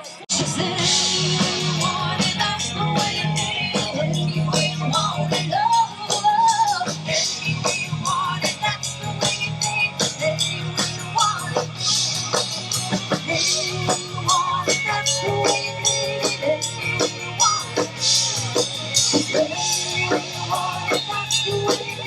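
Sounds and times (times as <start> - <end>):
drum kit: 0.0 - 22.0
guitar: 0.0 - 22.0
live rock band playing: 0.0 - 22.0.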